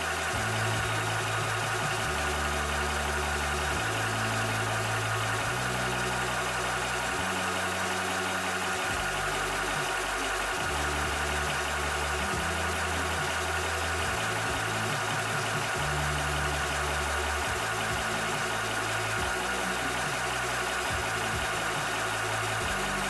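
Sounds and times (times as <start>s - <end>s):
air compressor running: 0.0s - 23.0s.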